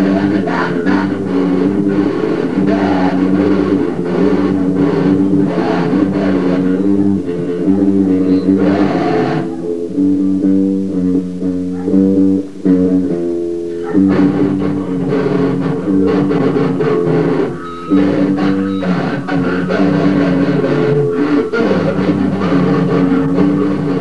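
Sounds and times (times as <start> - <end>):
electric guitar riff: 0.0 - 24.0
heavy band music: 0.0 - 24.0.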